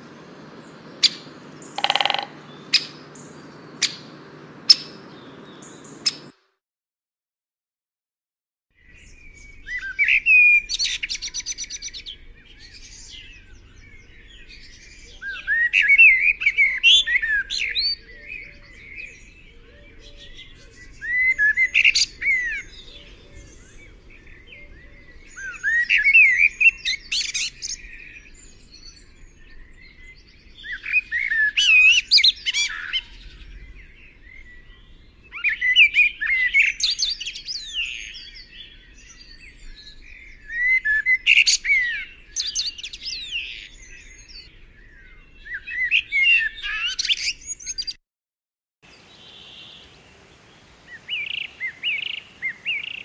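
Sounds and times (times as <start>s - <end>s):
songbird chirping and warbling: 0.0s - 6.5s, 8.8s - 48.0s, 48.9s - 53.0s.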